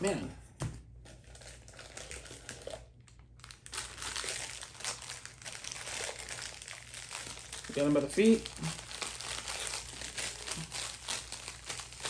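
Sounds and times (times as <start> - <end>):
plastic packaging crinkling: 1.0 - 12.0.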